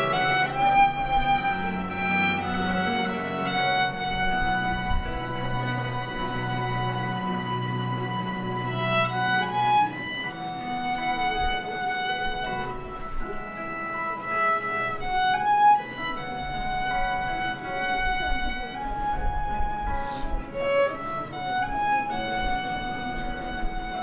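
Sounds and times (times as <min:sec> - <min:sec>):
bowed violin slow melody: 0:00.0 - 0:24.0.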